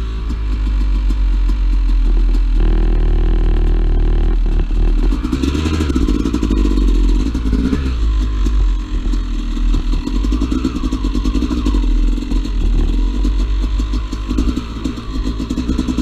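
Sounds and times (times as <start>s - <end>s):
bike rattling over rough ground: 0.0s - 16.0s
dirt bike engine revving: 0.0s - 16.0s.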